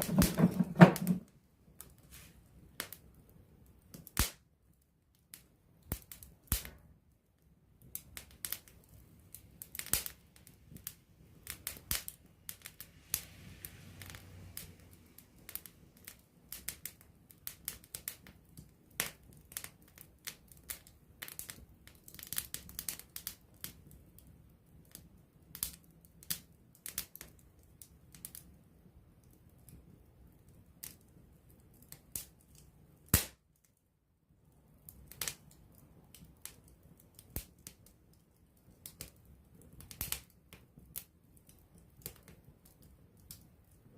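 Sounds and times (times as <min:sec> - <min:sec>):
campfire crackling and popping: 0:00.0 - 0:33.8, 0:34.4 - 0:43.9
low rustle of flame: 0:00.0 - 0:43.9.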